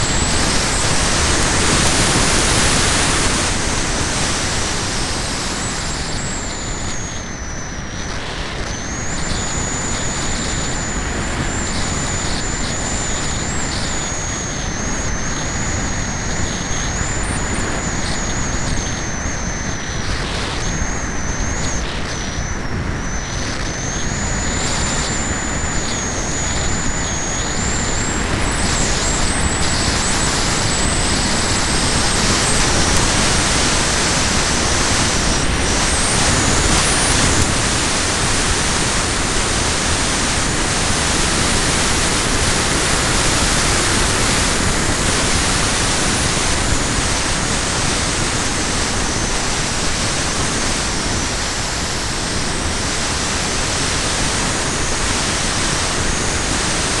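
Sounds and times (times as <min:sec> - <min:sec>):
wind noise hiss: 0:00.0 - 0:06.9, 0:09.0 - 0:57.0
thin high whine: 0:00.0 - 0:57.0.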